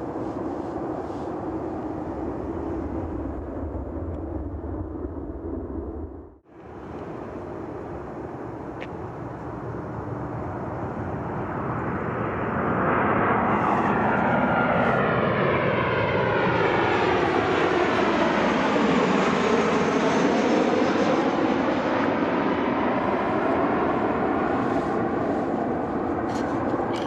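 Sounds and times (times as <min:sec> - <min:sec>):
jet engines roaring past: 0:00.0 - 0:27.0.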